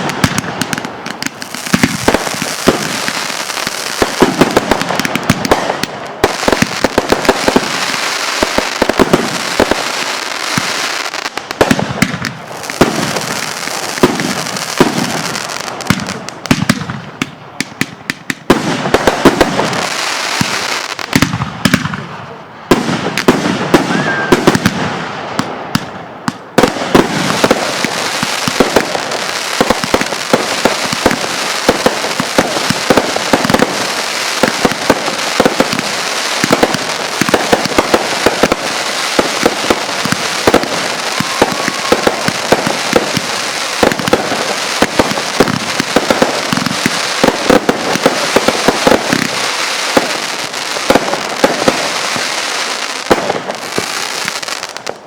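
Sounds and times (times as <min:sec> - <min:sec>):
sharp firework bangs: 0:00.0 - 0:10.8, 0:11.6 - 0:22.1, 0:22.7 - 0:55.0
fireworks barrage crackling: 0:00.0 - 0:55.0.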